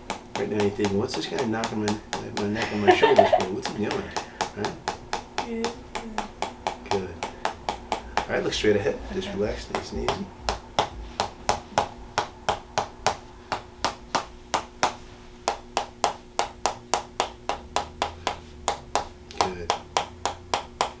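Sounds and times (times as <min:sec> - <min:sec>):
wooden mallet tapping wooden wedge: 0:00.0 - 0:21.0.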